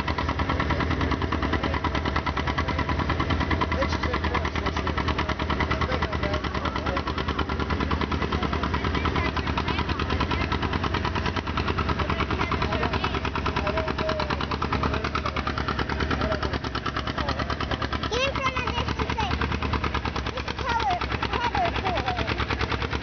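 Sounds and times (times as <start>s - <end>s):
tractor engine popping: 0.0s - 23.0s.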